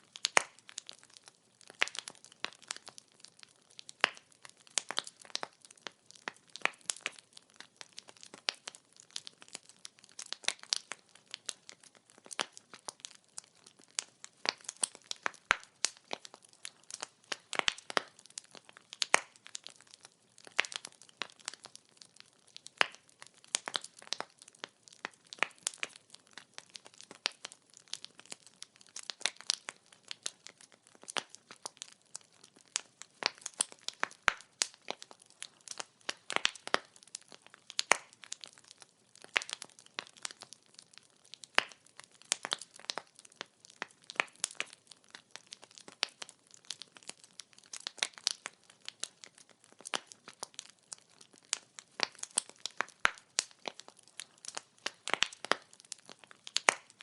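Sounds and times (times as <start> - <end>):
firewood crackling and popping: 0.0 - 57.0.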